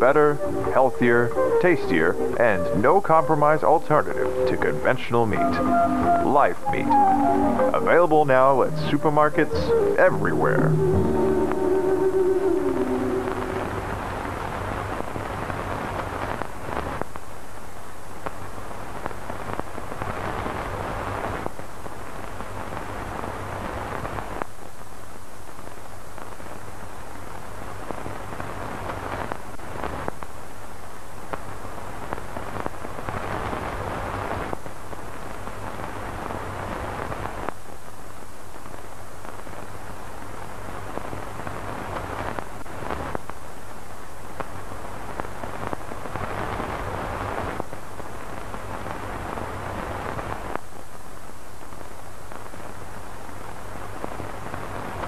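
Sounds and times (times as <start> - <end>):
crackling static hiss with pops: 0.0 - 55.0.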